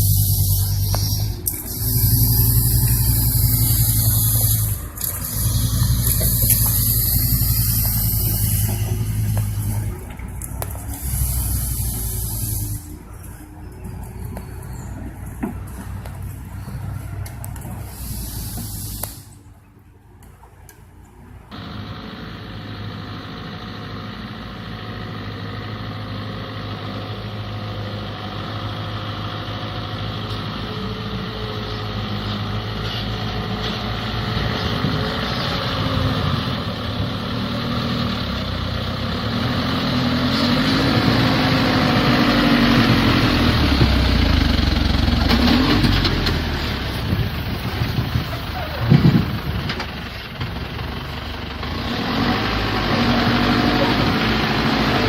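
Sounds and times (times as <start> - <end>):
heavy truck engine revving: 0.0 - 19.5, 21.5 - 55.0.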